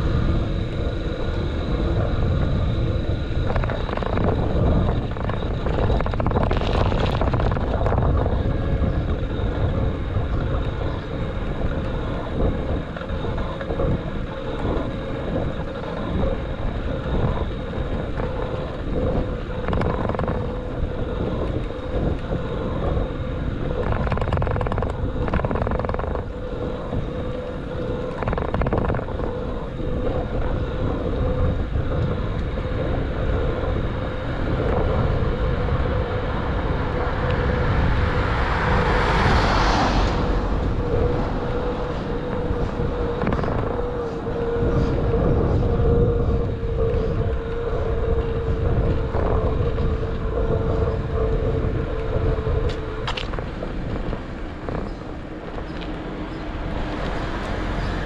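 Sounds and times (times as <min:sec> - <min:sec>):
road rumble: 0:00.0 - 0:58.0
wind rush: 0:00.0 - 0:58.0.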